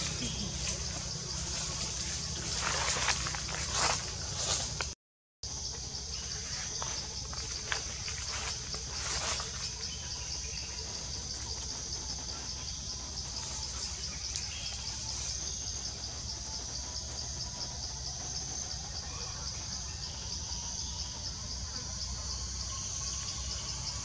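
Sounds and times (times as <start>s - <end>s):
insect chorus high pulsing buzz: 0.0s - 24.0s.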